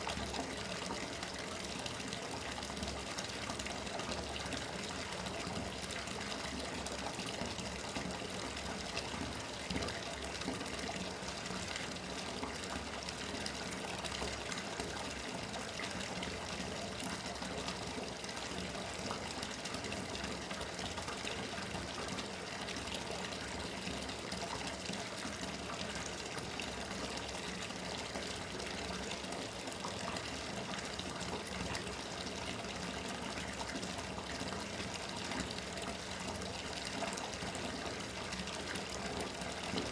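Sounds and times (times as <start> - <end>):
water pouring from bathtub tap: 0.0 - 39.9.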